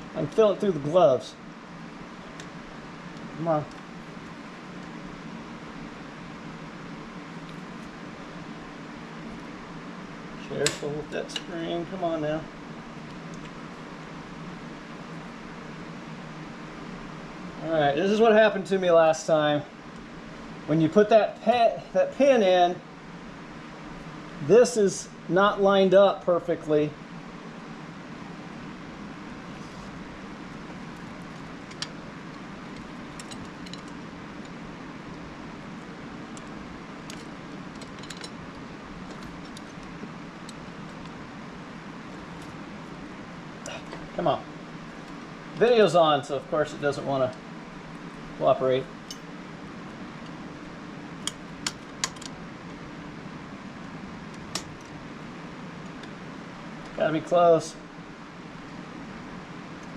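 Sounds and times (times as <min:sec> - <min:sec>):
fan humming: 0:00.0 - 0:59.9
steady background hiss: 0:00.0 - 0:59.9.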